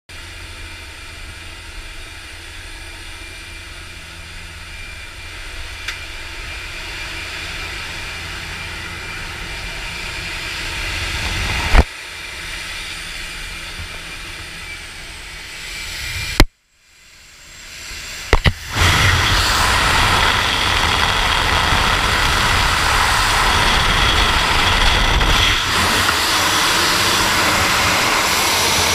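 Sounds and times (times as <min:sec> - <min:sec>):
aircraft engine in cabin: 0:00.1 - 0:28.9
rushing wind: 0:00.4 - 0:16.5, 0:17.5 - 0:28.9.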